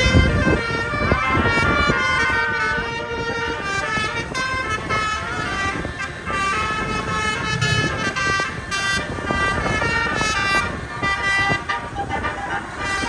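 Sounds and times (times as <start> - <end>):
bus musical horn tune: 0.0 - 13.0.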